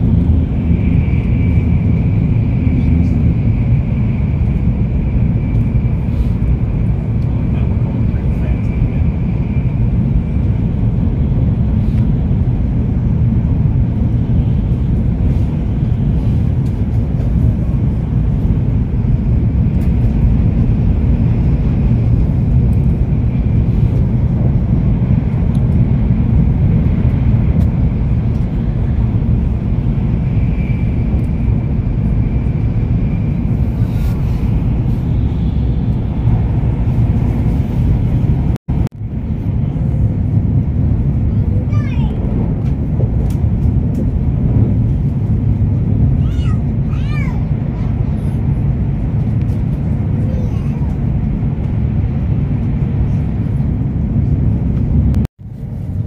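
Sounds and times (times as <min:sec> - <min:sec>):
train rumble inside cabin: 0:00.0 - 0:56.0.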